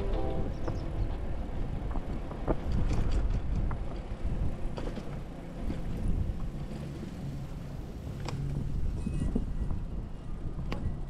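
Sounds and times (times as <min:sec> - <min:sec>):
bicycle tyre rumble: 0:00.0 - 0:11.0
wind on microphone: 0:00.0 - 0:11.0.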